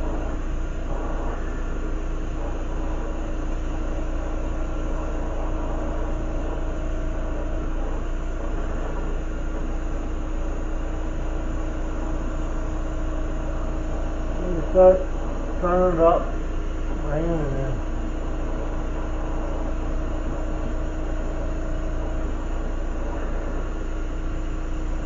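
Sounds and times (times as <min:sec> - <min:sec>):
constant low hum: 0:00.0 - 0:25.0.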